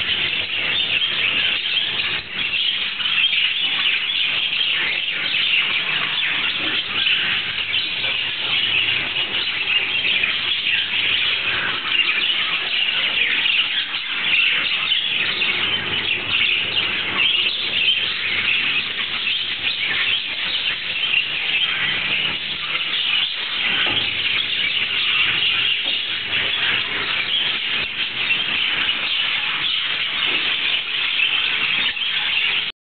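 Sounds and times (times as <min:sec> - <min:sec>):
flock of lovebirds chattering: 0:00.0 - 0:32.7.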